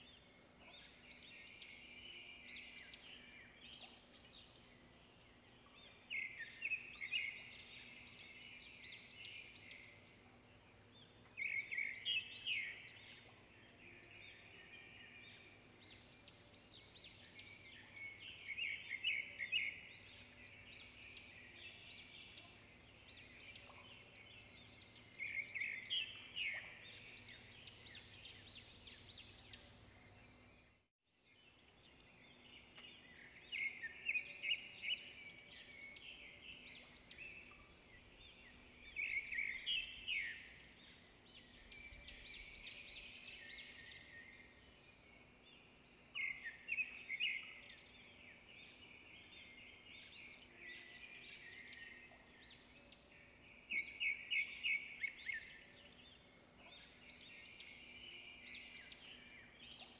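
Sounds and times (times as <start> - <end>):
small birds chirping and trilling: 0.0 - 59.9.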